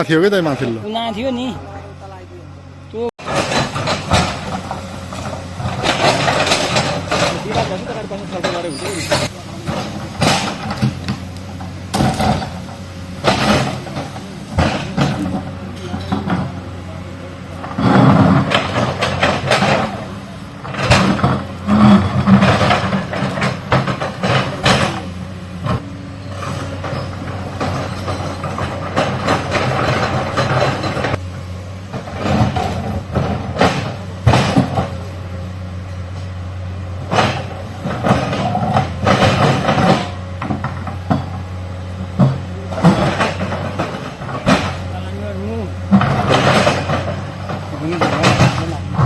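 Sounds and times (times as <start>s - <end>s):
diesel engine running under load: 0.0s - 49.0s
bucket clanking and scraping rock: 3.2s - 31.2s, 37.0s - 49.0s.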